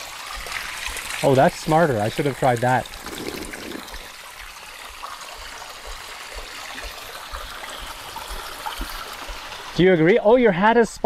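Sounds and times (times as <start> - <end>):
water trickling over rocks: 0.0 - 10.4.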